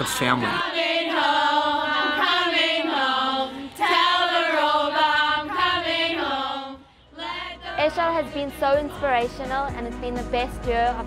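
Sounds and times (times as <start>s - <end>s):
women singing in chorus: 0.0s - 8.9s.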